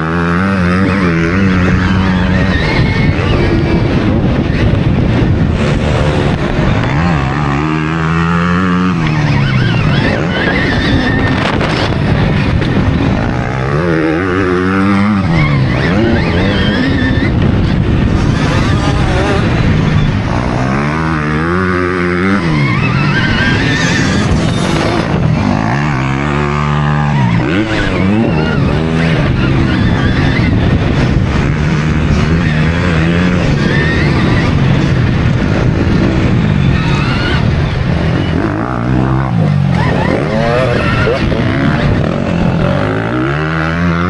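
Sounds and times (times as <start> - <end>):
dirt track noise: 0.0 - 44.0
electric motocross bike motor: 0.0 - 44.0
wind noise: 0.0 - 44.0.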